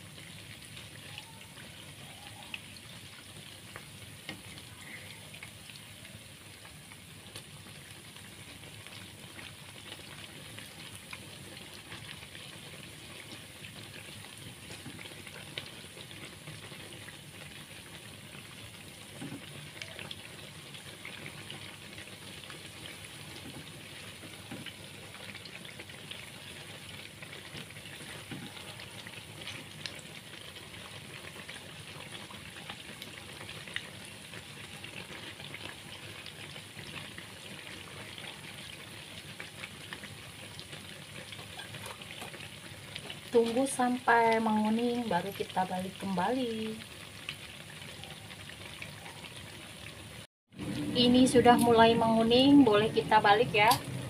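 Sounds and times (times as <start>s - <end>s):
oil sizzling and crackling: 0.0s - 54.0s.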